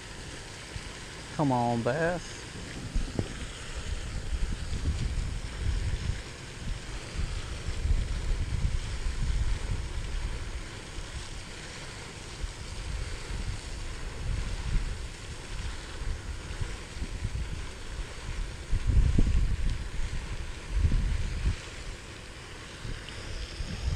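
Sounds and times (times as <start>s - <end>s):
breeze hiss: 0.0s - 23.9s
wind buffeting microphone: 2.0s - 11.5s, 12.2s - 23.9s.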